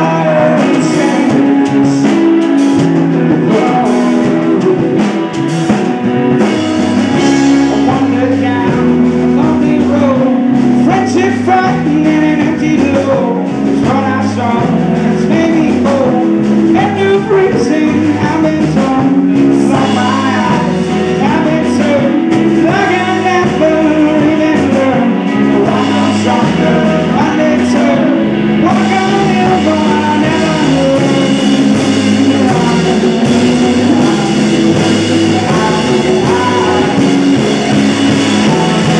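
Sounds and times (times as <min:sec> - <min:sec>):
drum kit: 0:00.0 - 0:38.9
electric guitars: 0:00.0 - 0:38.9
man singing lead vocal: 0:00.0 - 0:38.9.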